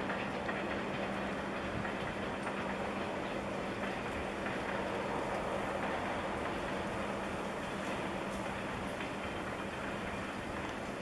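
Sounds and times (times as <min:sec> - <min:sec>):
freight train wheels rolling on track: 0:00.0 - 0:11.0.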